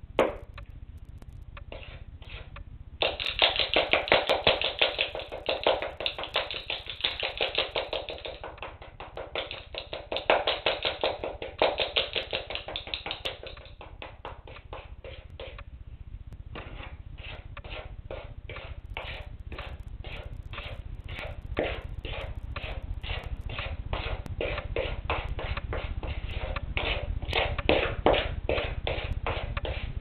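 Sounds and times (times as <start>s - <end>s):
wooden spoon beating cake mixture: 0.2s - 15.7s, 16.4s - 30.0s.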